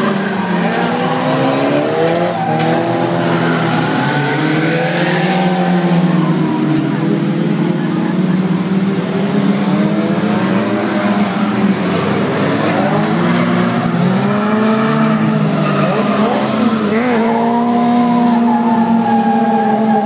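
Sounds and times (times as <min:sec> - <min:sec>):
racing car engines revving: 0:00.0 - 0:20.0.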